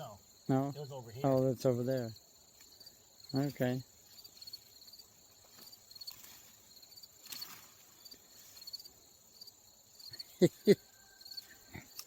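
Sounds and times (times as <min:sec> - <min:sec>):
crickets chirping: 0:00.0 - 0:12.0
high insect drone: 0:00.0 - 0:12.0.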